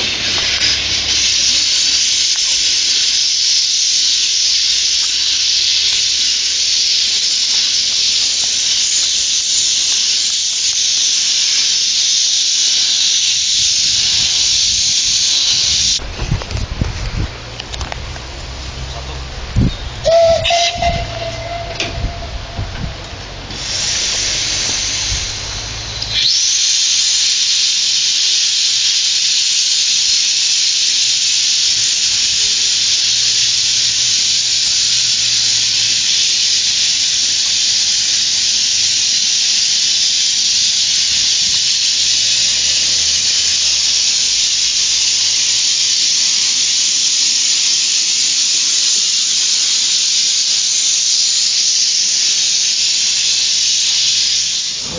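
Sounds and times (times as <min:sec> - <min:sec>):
steam locomotive venting steam: 0:00.0 - 0:54.9.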